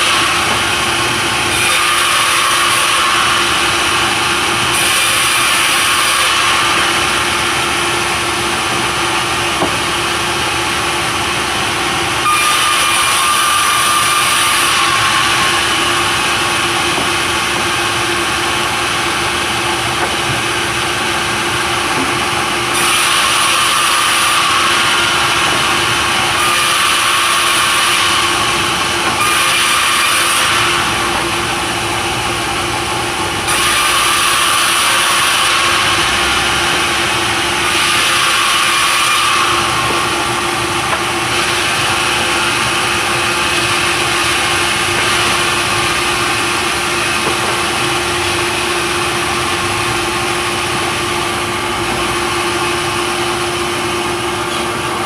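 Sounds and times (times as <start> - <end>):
saw blade cutting timber: 0.0 - 55.0
sawmill saw running: 0.0 - 55.0.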